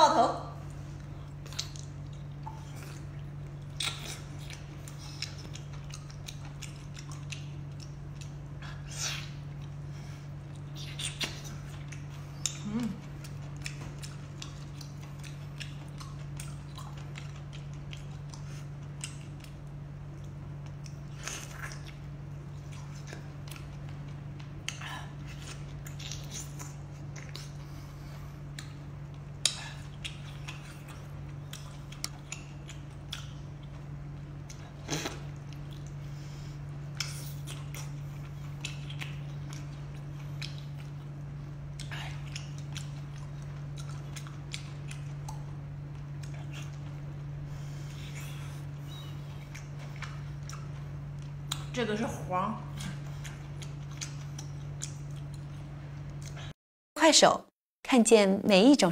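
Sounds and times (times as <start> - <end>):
steady low hum: 0.0 - 57.2
person chewing wetly: 0.6 - 51.8, 52.7 - 56.5.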